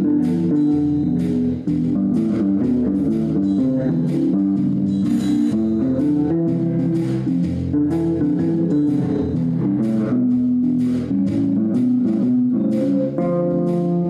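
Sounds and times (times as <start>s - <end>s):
electric bass guitar fingerstyle: 0.0s - 14.0s.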